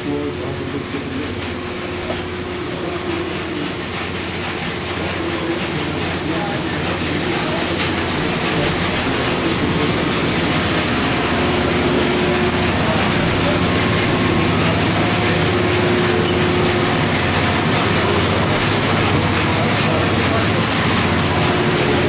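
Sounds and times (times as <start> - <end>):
steam machinery hum and hiss: 0.0 - 22.0.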